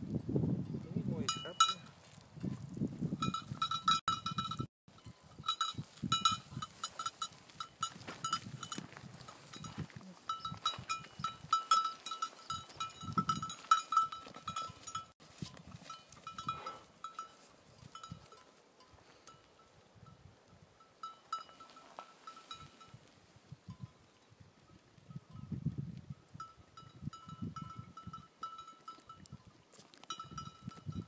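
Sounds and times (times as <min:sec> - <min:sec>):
sheep bell clinking: 0:00.6 - 0:24.1, 0:24.7 - 0:31.0.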